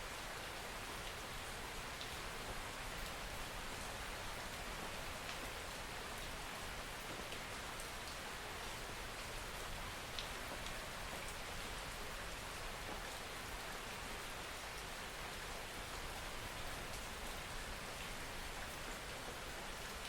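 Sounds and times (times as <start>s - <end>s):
soft rain falling: 0.0s - 20.0s.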